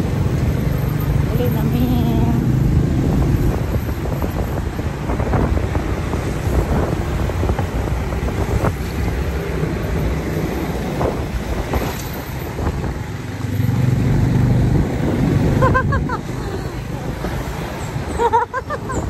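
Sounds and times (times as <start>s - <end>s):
road noise: 0.0s - 19.0s
wind buffeting microphone: 2.4s - 19.0s.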